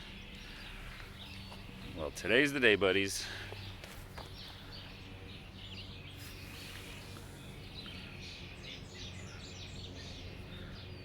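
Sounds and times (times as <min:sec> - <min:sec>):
songbirds chirping and singing: 0:00.0 - 0:11.0
steady low hum: 0:00.0 - 0:11.0.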